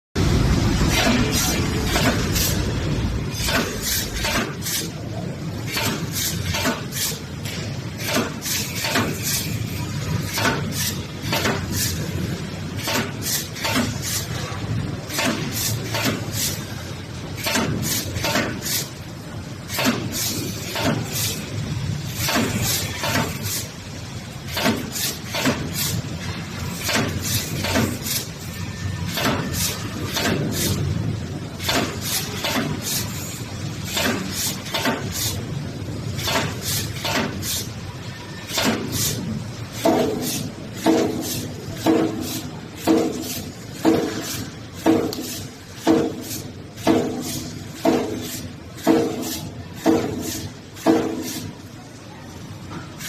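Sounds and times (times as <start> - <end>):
welding machine metallic clacks: 0.3 - 51.6.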